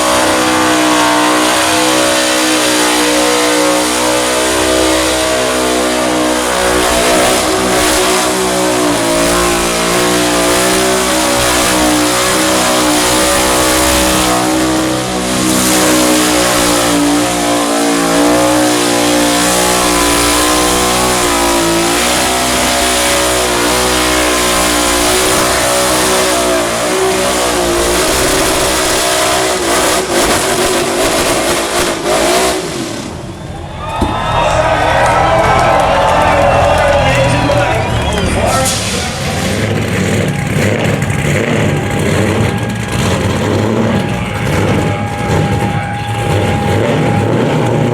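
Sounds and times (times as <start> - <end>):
car engine revving high: 0.0 - 47.9.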